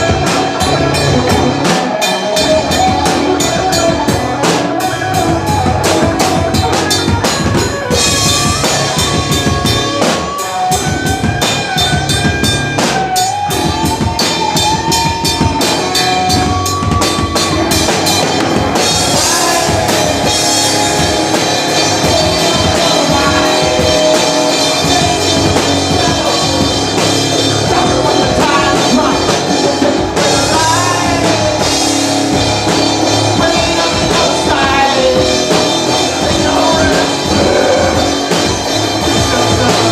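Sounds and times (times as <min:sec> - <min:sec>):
drum kit: 0:00.0 - 0:39.9
electric guitar lead: 0:00.0 - 0:39.9.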